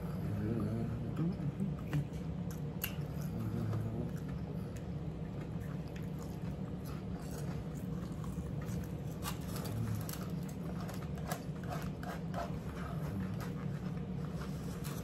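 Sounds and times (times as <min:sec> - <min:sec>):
steady low hum: 0:00.0 - 0:15.0
crunchy chewing: 0:01.7 - 0:15.0.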